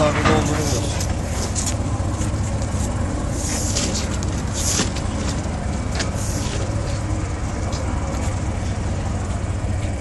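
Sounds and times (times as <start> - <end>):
boat diesel engine droning: 0.0 - 10.0.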